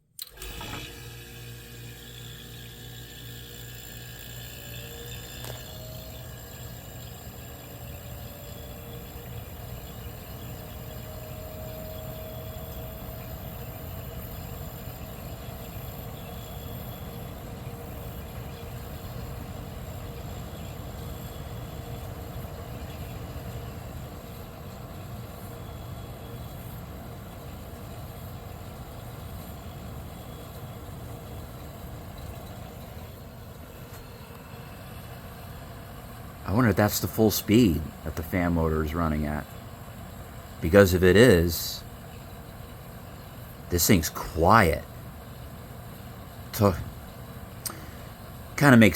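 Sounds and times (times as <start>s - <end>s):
dehumidifier humming: 0.0s - 48.9s.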